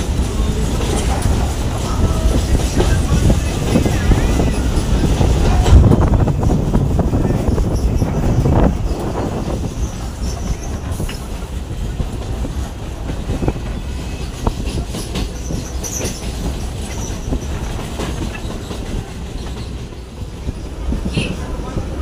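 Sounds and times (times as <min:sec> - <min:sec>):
clacks over rail joints: 0:00.0 - 0:22.0
train wheels rumbling on rail: 0:00.0 - 0:22.0.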